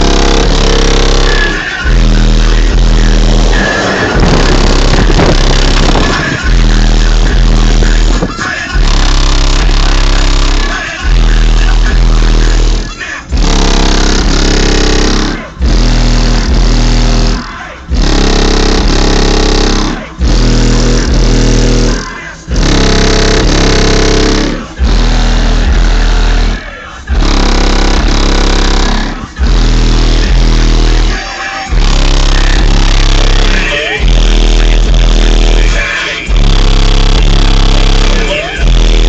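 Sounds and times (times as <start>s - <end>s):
loud bass music from subwoofers: 0.0s - 39.0s.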